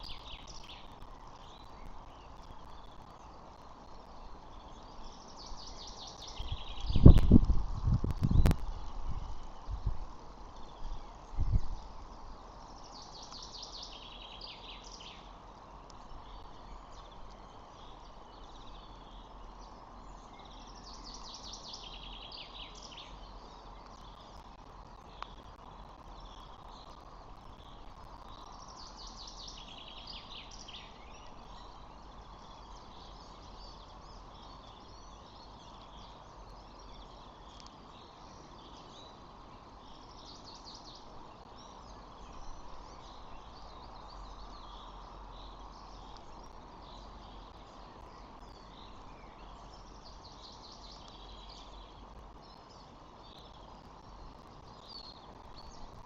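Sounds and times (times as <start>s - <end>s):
faint steady hum: 0.0s - 56.0s
outdoor background noise: 0.0s - 56.0s
songbird singing: 0.0s - 56.0s.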